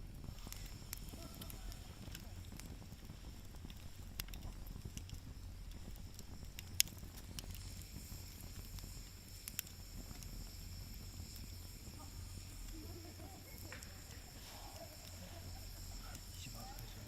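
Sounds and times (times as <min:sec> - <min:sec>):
sharp fire pops: 0:00.0 - 0:17.0
steady low rumble: 0:00.0 - 0:17.0
wood fire crackling: 0:00.0 - 0:17.0.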